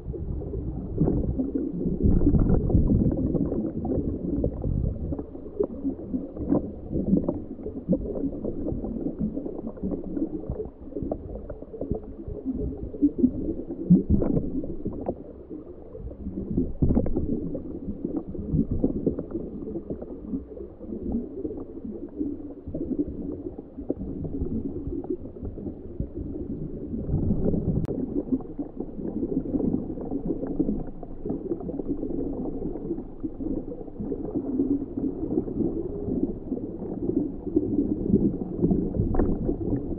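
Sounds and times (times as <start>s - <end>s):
underwater churning and gurgling: 0.0s - 39.9s.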